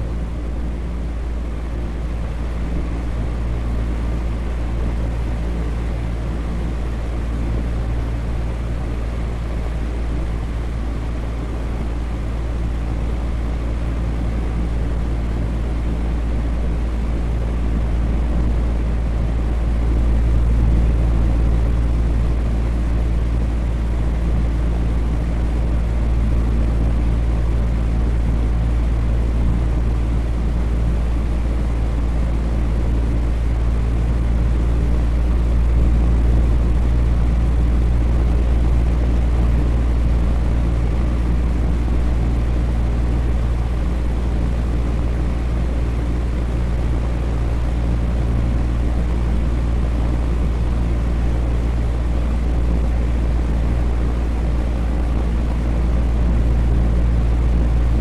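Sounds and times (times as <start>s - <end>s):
electric fan running: 0.0s - 58.0s
faint motor hum: 0.0s - 58.0s.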